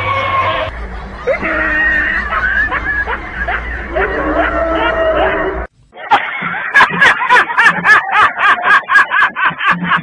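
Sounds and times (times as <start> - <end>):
high-pitched laughter: 1.2 - 10.0.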